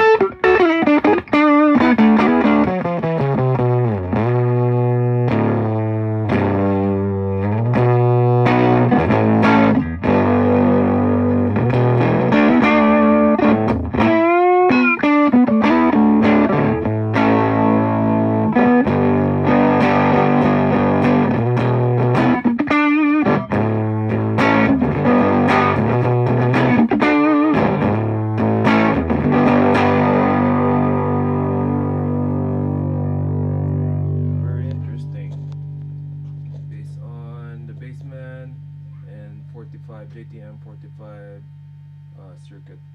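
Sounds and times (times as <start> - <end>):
distorted electric guitar: 0.0 - 40.3.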